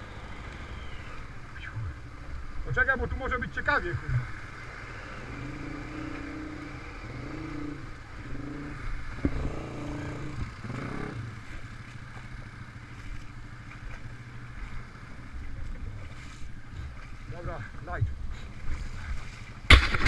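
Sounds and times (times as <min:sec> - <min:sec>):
atv engine revving: 0:00.0 - 0:17.4
water splashing: 0:00.0 - 0:20.0.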